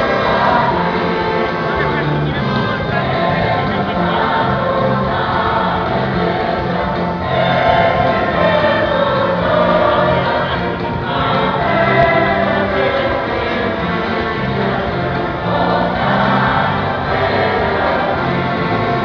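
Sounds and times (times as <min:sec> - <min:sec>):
choir singing gospel: 0:00.0 - 0:19.0.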